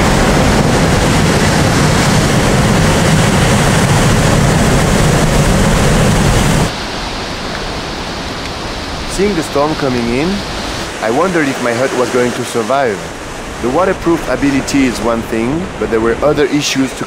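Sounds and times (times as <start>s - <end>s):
storm waves breaking on rocks: 0.0s - 17.0s
wind: 0.0s - 17.0s.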